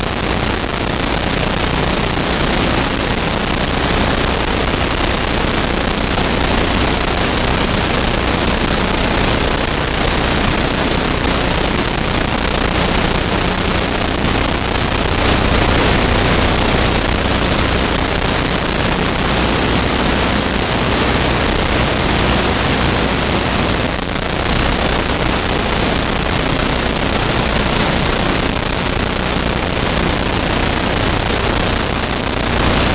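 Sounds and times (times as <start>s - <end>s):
loud static hiss: 0.0s - 32.9s.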